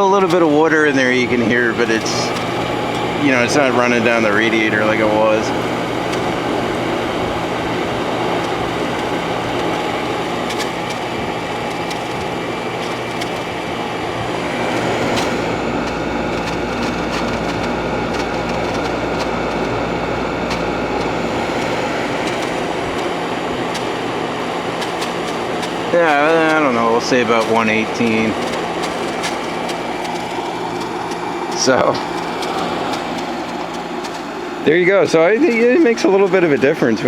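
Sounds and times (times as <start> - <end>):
air conditioner hum: 0.0 - 37.0
fan rushing: 0.0 - 37.0
water ticks and splashes: 0.0 - 37.0.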